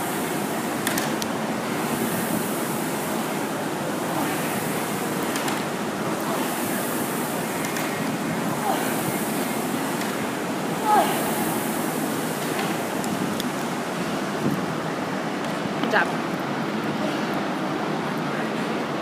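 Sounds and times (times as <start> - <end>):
rowing machine fan whooshing: 0.0 - 19.0.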